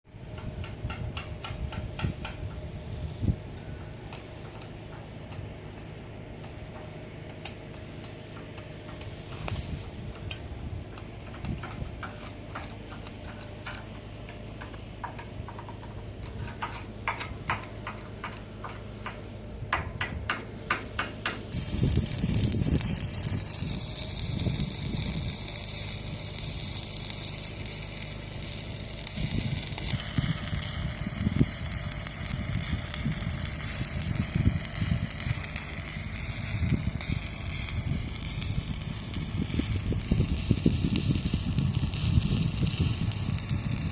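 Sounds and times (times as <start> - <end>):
arc welding crackling sizzle: 0.1 - 19.2, 21.0 - 43.9.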